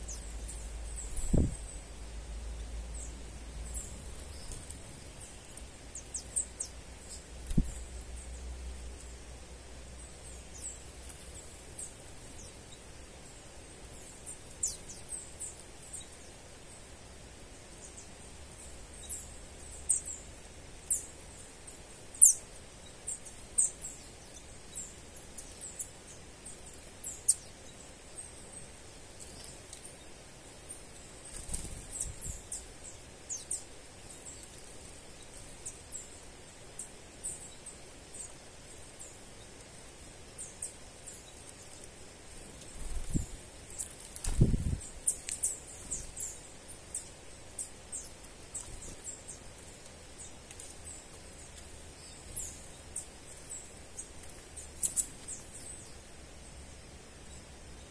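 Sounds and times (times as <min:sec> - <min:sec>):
rustle: 0:00.0 - 0:57.9
songbirds chirping: 0:00.0 - 0:57.9.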